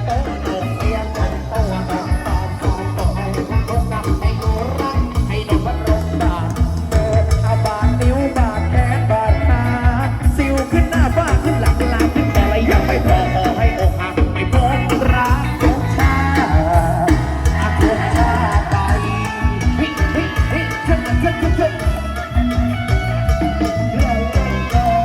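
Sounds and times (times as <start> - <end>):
heavy bass drum beat: 0.0 - 25.0
live band music: 0.0 - 25.0.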